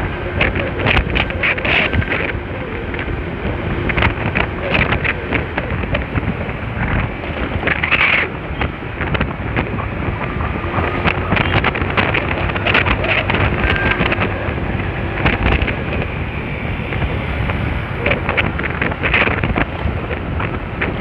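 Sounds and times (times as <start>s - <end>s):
wind gusty thumps: 0.0s - 21.0s
wind rushing on microphone: 0.0s - 21.0s.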